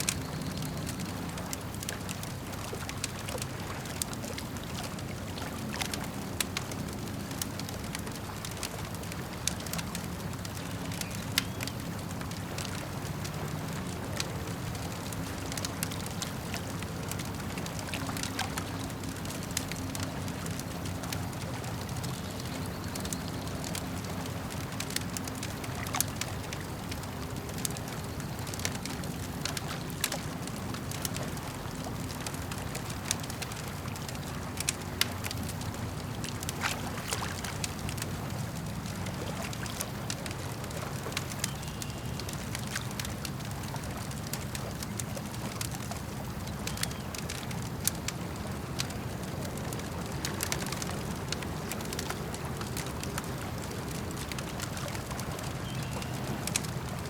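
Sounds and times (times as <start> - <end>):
campfire crackling and popping: 0.0 - 57.0
lake water lapping: 0.0 - 57.0.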